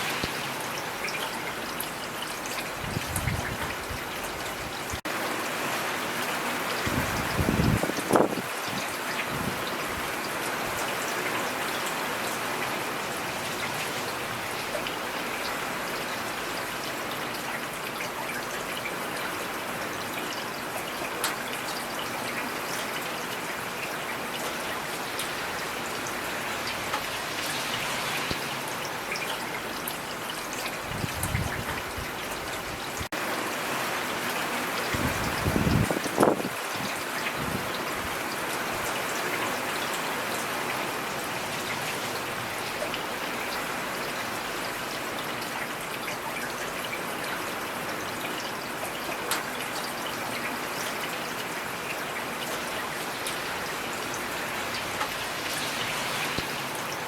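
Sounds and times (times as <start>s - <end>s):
steady rain falling: 0.0s - 57.0s
trickle of running water: 0.0s - 57.0s.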